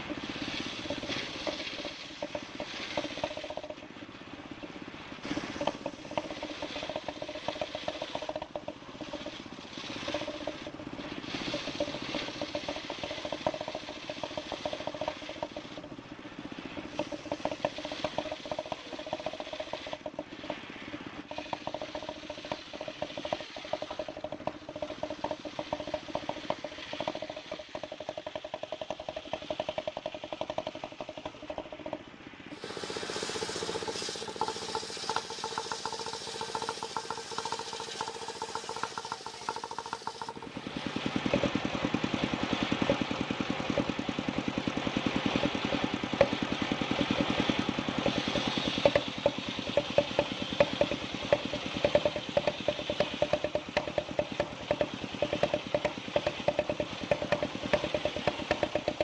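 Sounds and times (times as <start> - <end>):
motorised wood saw running: 0.0 - 59.0.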